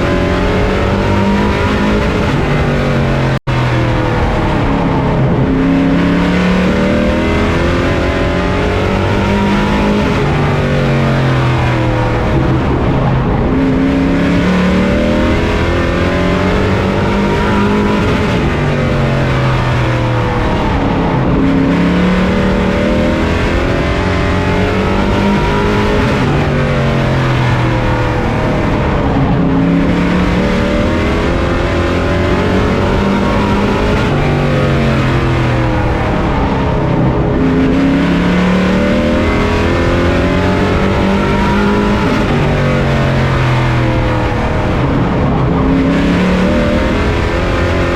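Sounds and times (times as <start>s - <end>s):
racing truck engine accelerating: 0.0s - 47.9s.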